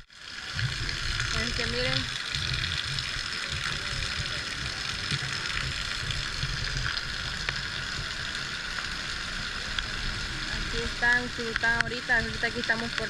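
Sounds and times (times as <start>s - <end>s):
low rumble: 0.0s - 12.5s
heavy rain: 0.0s - 13.0s.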